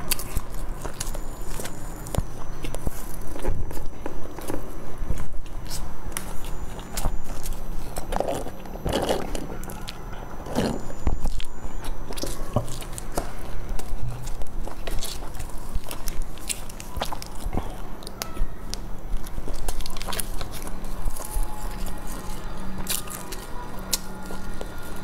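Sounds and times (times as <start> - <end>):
crunchy bites and chewing: 0.0 - 25.0.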